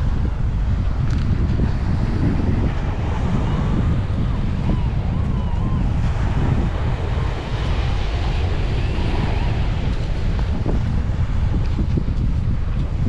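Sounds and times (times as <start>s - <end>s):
surf: 0.0s - 13.0s
wind buffeting microphone: 0.0s - 13.0s.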